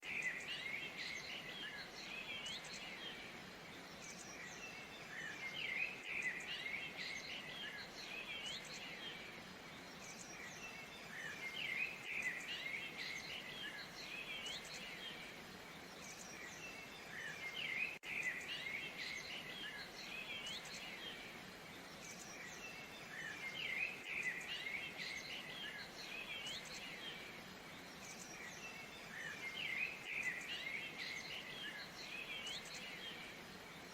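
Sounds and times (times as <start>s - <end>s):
birds chirping and singing: 0.0s - 33.9s
steady background hiss: 0.0s - 33.9s.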